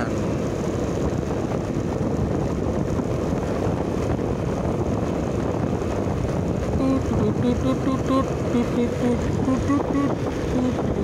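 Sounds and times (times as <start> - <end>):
road noise: 0.0 - 11.0
wind rumble on microphone: 0.0 - 11.0.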